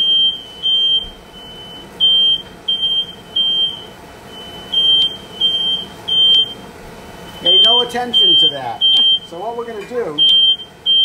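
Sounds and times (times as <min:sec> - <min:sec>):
smoke alarm beeping: 0:00.0 - 0:06.6, 0:07.2 - 0:09.5, 0:10.2 - 0:11.0.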